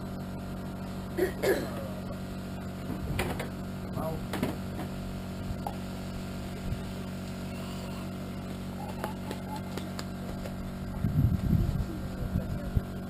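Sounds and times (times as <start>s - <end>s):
press machinery humming: 0.0s - 13.0s.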